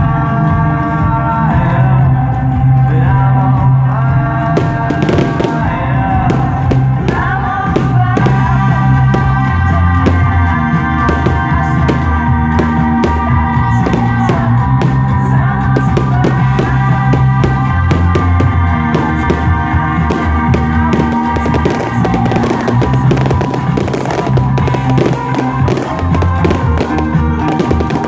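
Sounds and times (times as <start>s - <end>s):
fireworks banging and crackling: 4.5s - 28.0s
loud music with heavy bass: 4.6s - 28.0s.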